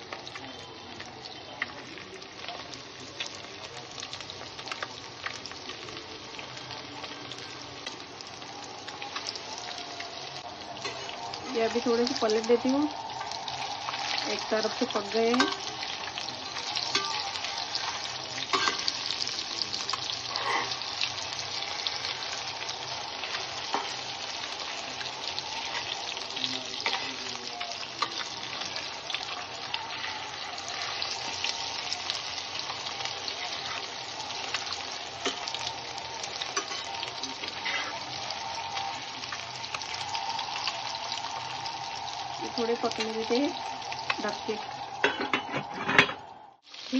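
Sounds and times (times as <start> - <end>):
fish sizzling in hot oil: 0.0 - 46.9.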